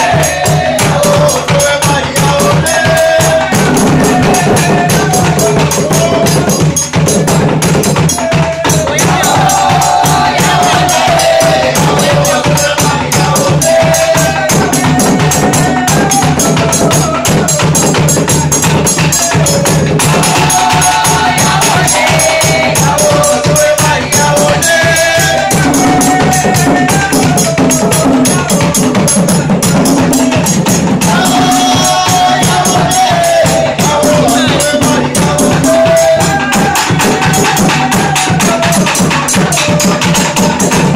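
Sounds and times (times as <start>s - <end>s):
hand drums in a fast rhythm: 0.0s - 40.9s
voices singing: 0.0s - 40.9s.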